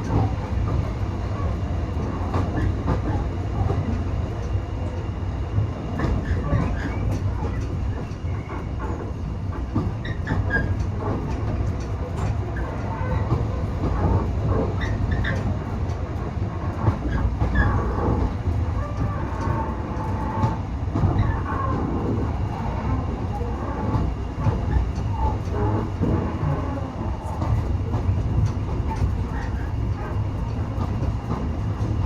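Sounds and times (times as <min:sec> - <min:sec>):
train rumbling along track: 0:00.0 - 0:32.0
wheels clicking on track: 0:06.0 - 0:32.0.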